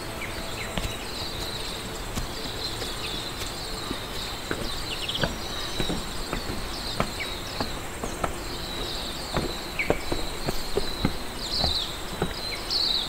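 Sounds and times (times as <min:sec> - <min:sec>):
footsteps on wooden deck: 0:00.0 - 0:13.0
insects chirping: 0:00.0 - 0:13.0.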